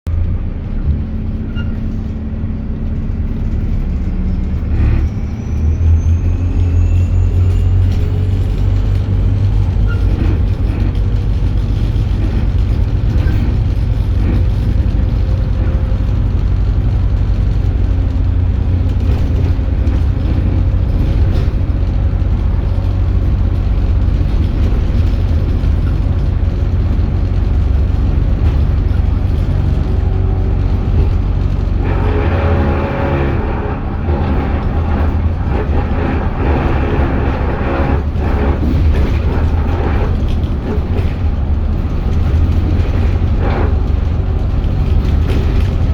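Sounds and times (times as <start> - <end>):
bus engine rumbling: 0.0 - 45.9.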